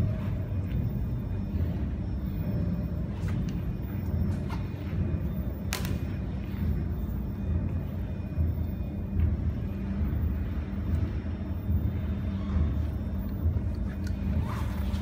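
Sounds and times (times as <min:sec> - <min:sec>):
faint hum: 0:00.0 - 0:15.0
low background rumble: 0:00.0 - 0:15.0.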